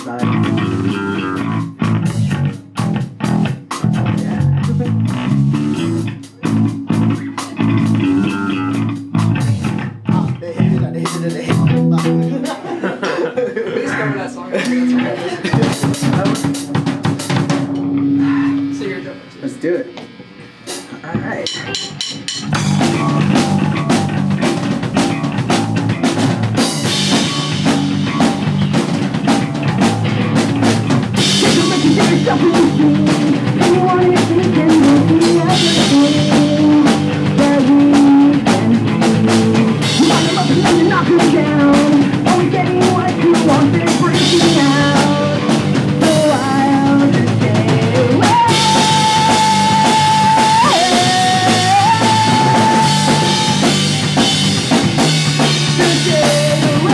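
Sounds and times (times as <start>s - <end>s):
punk rock band playing live: 0.0s - 13.0s, 14.6s - 19.3s, 20.5s - 56.9s.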